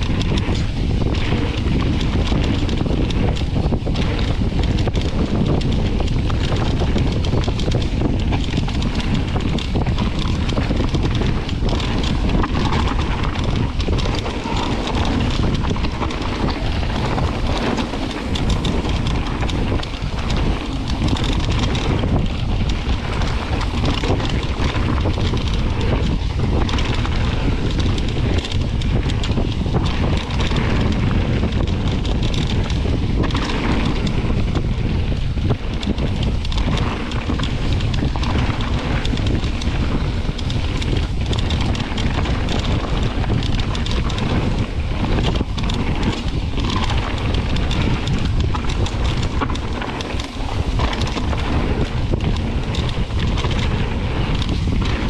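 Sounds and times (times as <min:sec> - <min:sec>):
tyres crunching over gravel: 0:00.0 - 0:55.0
wind buffeting microphone: 0:00.0 - 0:55.0.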